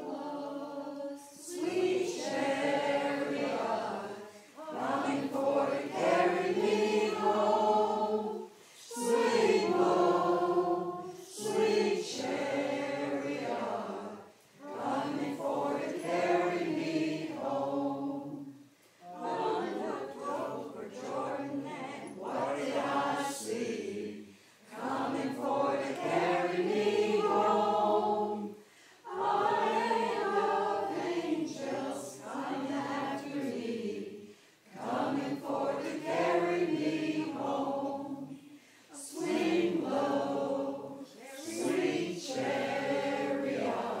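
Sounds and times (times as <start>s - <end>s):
choir singing unaccompanied: 0.0s - 44.0s.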